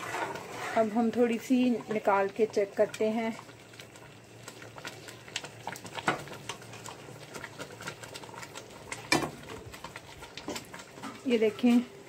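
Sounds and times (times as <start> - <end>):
thick sauce simmering with soft pops: 0.0 - 12.0.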